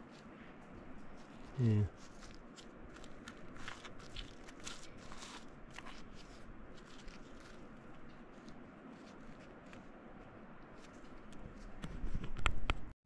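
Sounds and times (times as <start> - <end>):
digging through rock and dirt: 0.0 - 11.8.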